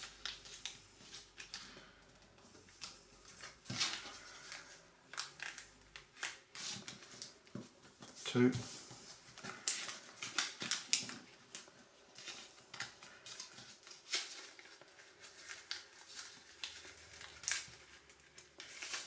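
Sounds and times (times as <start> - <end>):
paper rustling and crinkling: 0.0 - 19.0.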